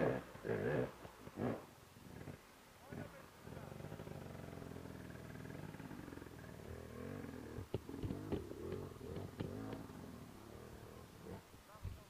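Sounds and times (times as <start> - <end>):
dirt bike engine at low revs: 0.0 - 11.6.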